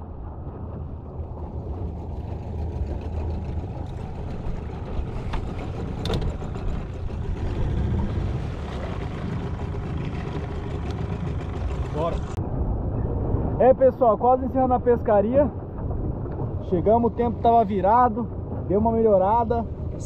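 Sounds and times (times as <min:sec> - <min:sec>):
steady low rumbling: 0:00.0 - 0:20.0.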